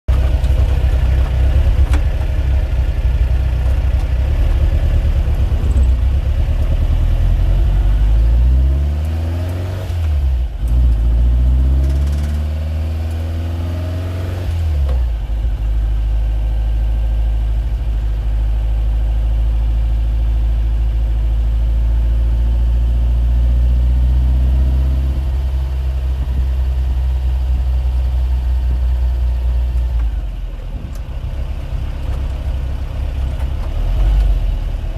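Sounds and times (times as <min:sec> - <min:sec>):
low mechanical drone: 0:00.1 - 0:34.9.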